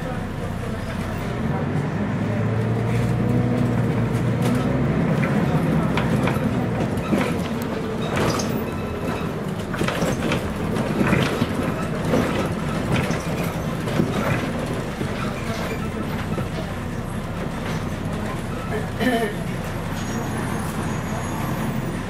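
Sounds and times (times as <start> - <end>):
bus body rattling and knocking: 0.0 - 22.0
bus diesel engine running: 0.0 - 22.0.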